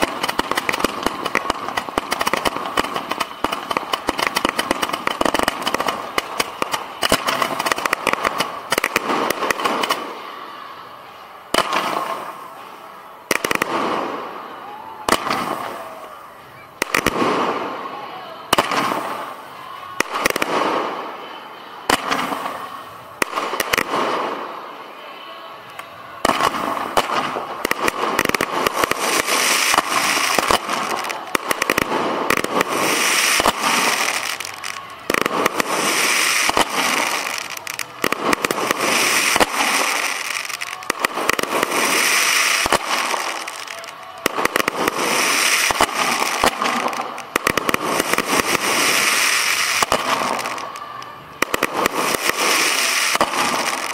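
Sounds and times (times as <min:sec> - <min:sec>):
fireworks crackling bursts: 0:00.0 - 0:53.9.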